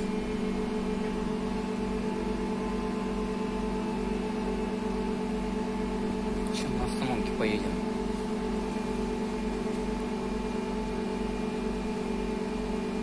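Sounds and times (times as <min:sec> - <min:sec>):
trolleybus electrical hum: 0:00.0 - 0:13.0.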